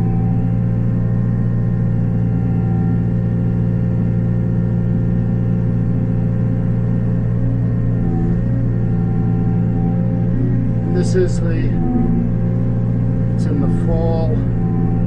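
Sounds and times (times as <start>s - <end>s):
excavator with rotary cutter droning: 0.0s - 15.0s.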